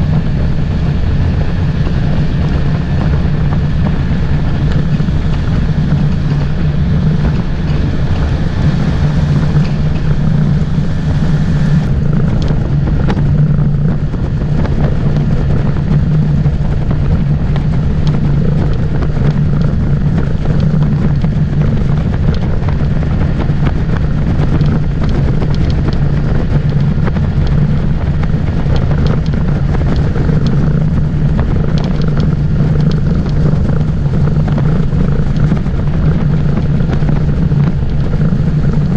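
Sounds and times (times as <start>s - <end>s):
motorboat engine running: 0.0s - 38.9s
wind noise on microphone: 0.0s - 38.9s.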